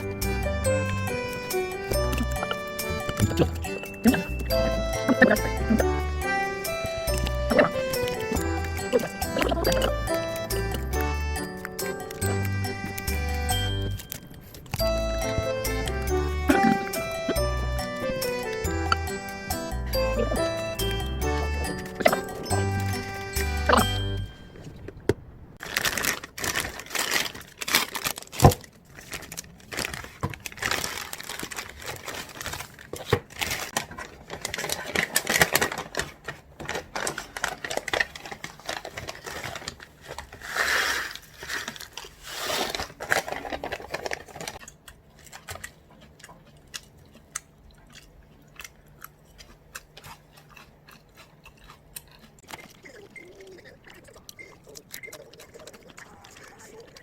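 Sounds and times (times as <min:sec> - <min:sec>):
food crunching and crinkling: 0:01.0 - 0:13.2, 0:13.8 - 0:19.2, 0:20.0 - 0:24.8, 0:25.6 - 0:57.0.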